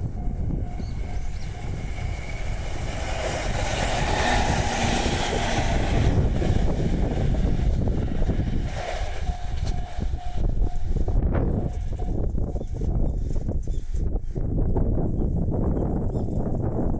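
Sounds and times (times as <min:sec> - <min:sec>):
train passing with rumble: 0:00.0 - 0:16.9.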